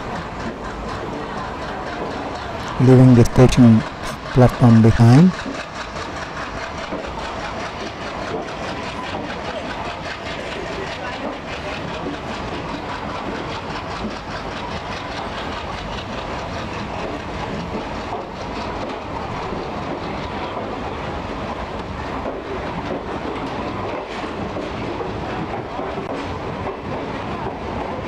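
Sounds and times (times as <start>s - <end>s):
wheels clacking over rail joints: 0.0s - 2.8s, 5.3s - 28.0s
train coaches rumbling: 0.0s - 28.0s.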